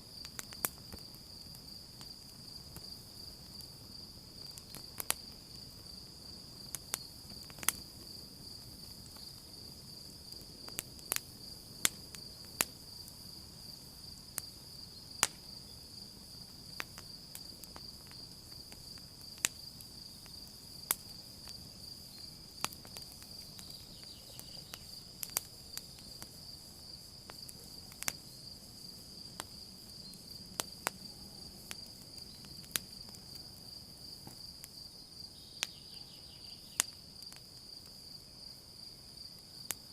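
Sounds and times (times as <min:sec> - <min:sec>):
campfire crackling: 0:00.0 - 0:39.9
crickets trilling: 0:00.0 - 0:39.9.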